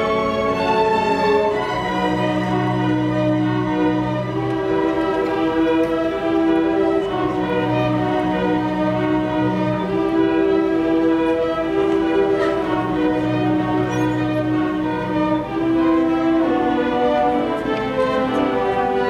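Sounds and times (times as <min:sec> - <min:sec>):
string orchestra sustained notes: 0:00.0 - 0:19.0.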